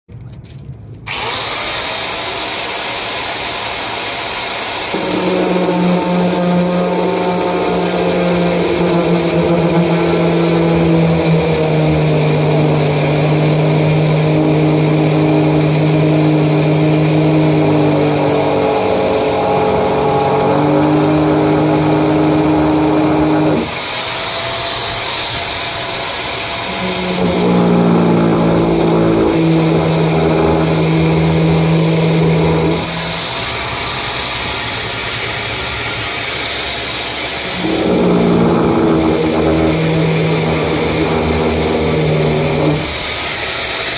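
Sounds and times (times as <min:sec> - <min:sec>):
power drill motor hum: 0:01.1 - 0:43.9.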